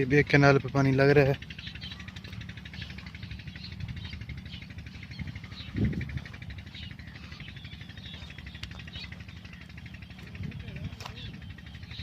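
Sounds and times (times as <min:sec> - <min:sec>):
low engine drone: 0:00.0 - 0:12.0
small birds chirping: 0:00.0 - 0:12.0.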